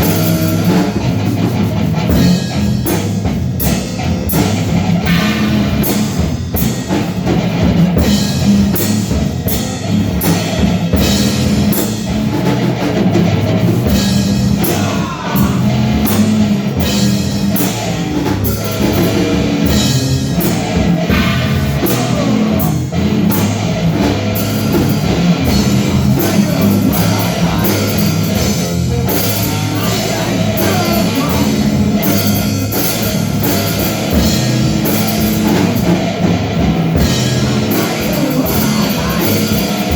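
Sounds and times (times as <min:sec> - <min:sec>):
distorted guitar: 0:00.0 - 0:39.9
driving drum kit: 0:00.0 - 0:39.9.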